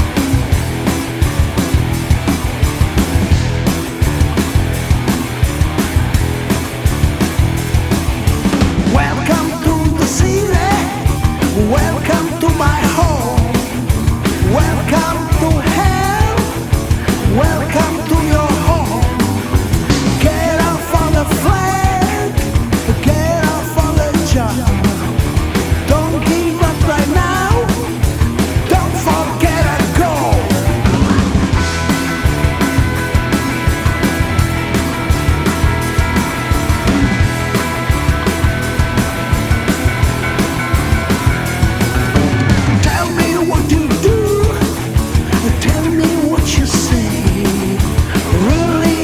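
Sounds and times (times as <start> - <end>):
loud rock band music: 0.0 - 49.0.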